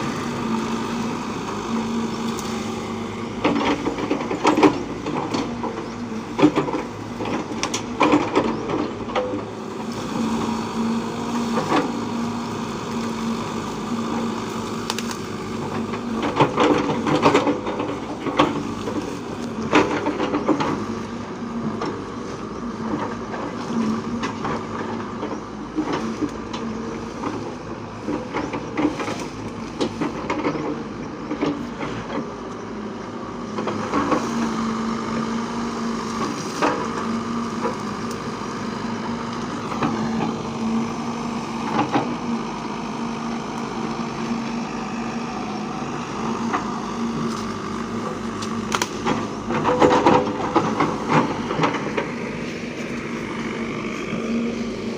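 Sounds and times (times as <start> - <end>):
diesel machine running: 0.0 - 54.9.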